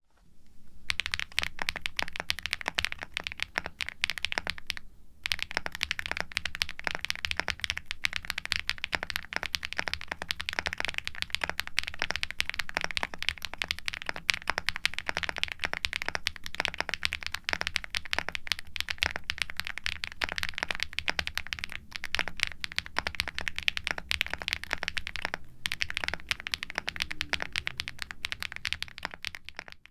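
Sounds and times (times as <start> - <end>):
fast typing on mechanical keyboard: 0.9 - 29.9.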